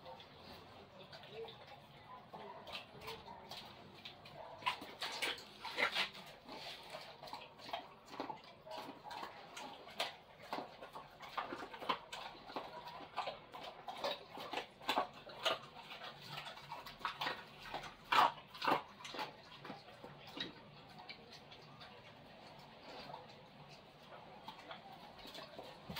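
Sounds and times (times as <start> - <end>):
dog chewing and crunching: 0.0 - 25.9.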